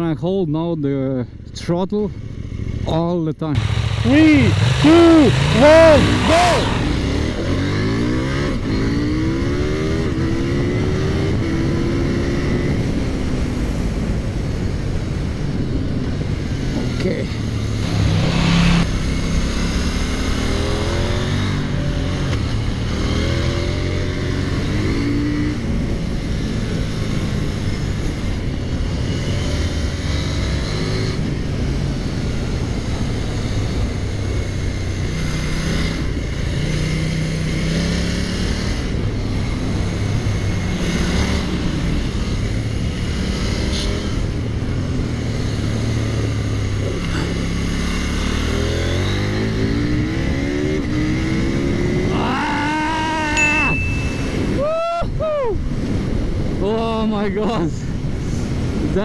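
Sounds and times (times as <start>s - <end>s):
motorcycle engine revving: 3.6s - 54.6s.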